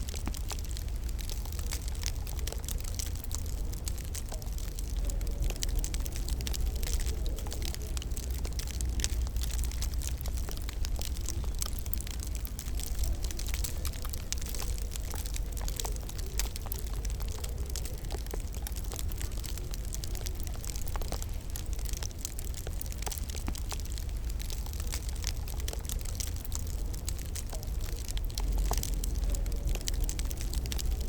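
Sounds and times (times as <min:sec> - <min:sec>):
low rumble of fire: 0:00.0 - 0:31.0
wood fire crackling: 0:00.0 - 0:31.0.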